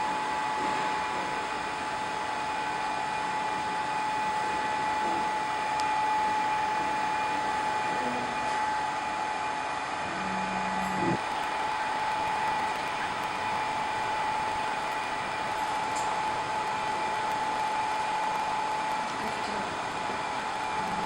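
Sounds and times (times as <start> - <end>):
hot-air blower whine: 0.0 - 21.0.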